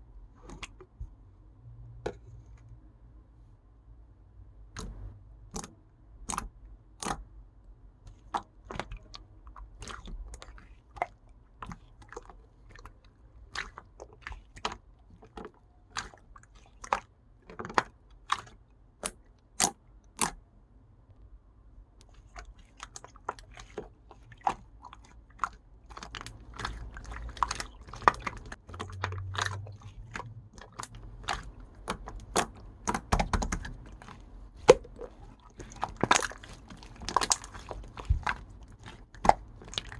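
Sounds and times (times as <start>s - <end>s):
slime squished by hand: 4.7s - 7.3s, 8.1s - 20.4s, 22.0s - 39.9s.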